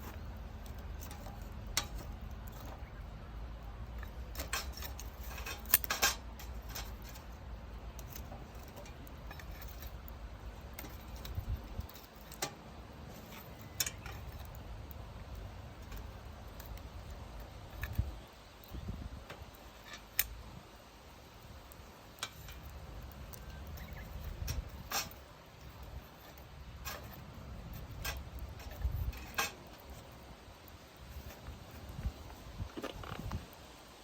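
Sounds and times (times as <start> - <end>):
firewood crackling and popping: 0.0 - 34.0.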